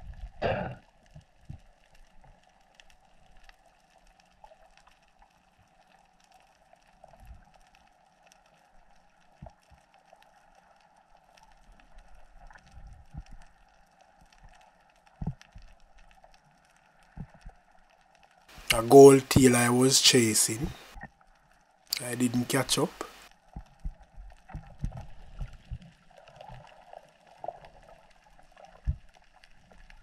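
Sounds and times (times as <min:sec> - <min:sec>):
underwater hum and hiss: 0:00.0 - 0:18.7, 0:19.4 - 0:30.0.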